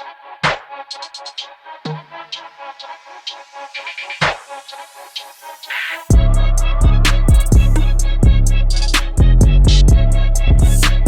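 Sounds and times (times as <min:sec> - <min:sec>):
hip hop music: 0:00.0 - 0:11.0.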